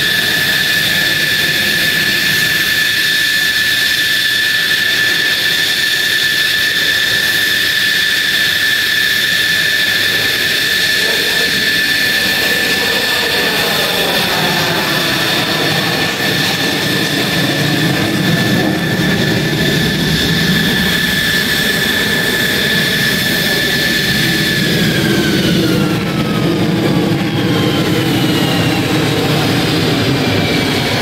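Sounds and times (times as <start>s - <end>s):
jet engine whining at idle: 0.0s - 31.0s.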